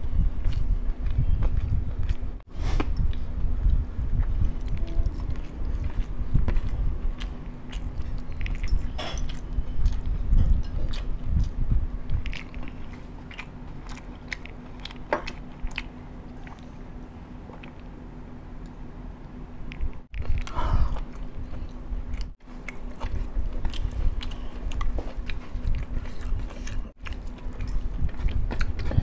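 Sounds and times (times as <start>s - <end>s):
close chewing: 0.1s - 17.9s, 19.7s - 29.0s.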